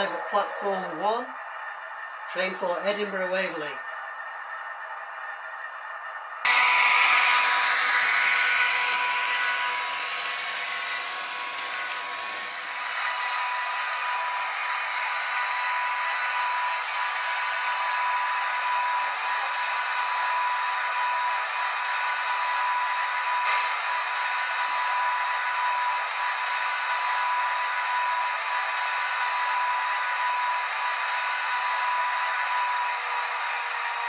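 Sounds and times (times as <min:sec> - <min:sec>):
model train whirring hiss: 0:06.5 - 0:33.9.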